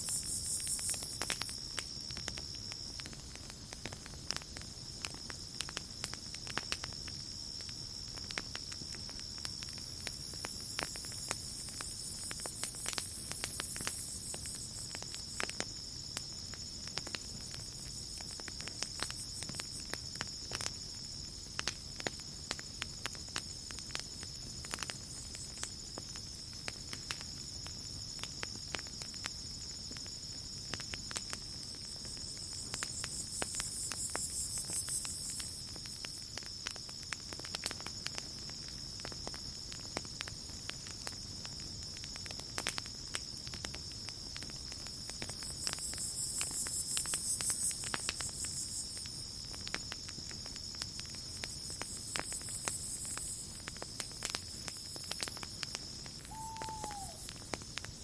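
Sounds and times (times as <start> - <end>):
high insect trill: 0.0 - 58.0
night insects chirring: 0.0 - 58.0
campfire crackling and popping: 0.1 - 58.0.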